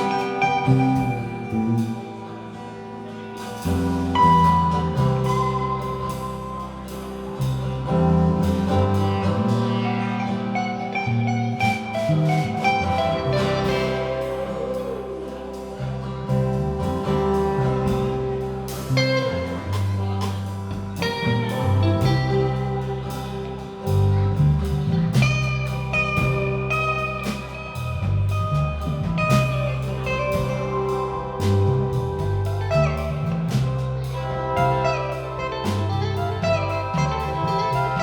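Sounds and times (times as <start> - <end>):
guitar: 0.0 - 38.0
held low bass notes: 0.0 - 38.0.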